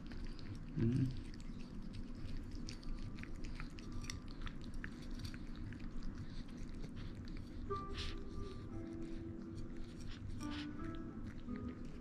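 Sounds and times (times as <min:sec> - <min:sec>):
cat licking plastic spoon: 0:00.0 - 0:12.0.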